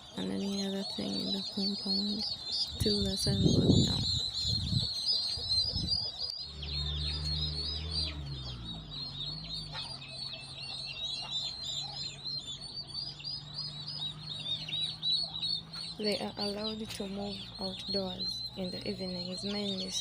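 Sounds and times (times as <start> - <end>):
turkey poults peeping: 0.0 - 20.0.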